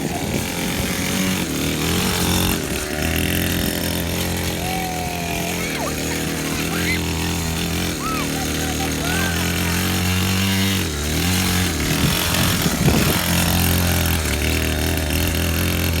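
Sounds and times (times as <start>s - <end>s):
motocross bike engine running: 0.0s - 16.0s.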